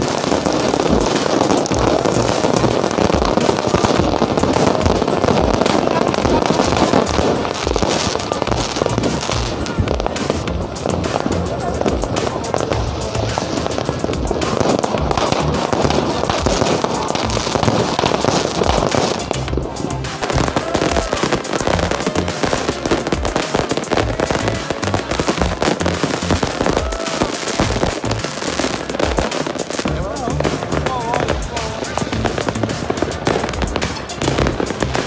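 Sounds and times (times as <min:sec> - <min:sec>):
aerial fireworks bursting: 0:00.0 - 0:35.0
fireworks crackling and popping: 0:00.0 - 0:35.0
music: 0:00.0 - 0:35.0.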